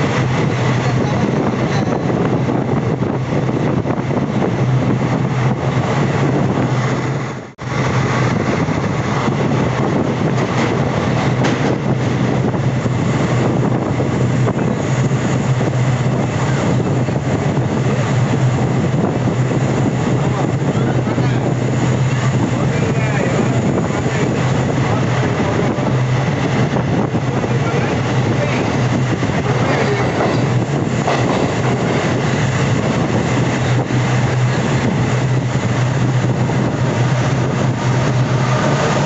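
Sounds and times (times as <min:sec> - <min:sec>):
train wheels on rails: 0:00.0 - 0:39.0.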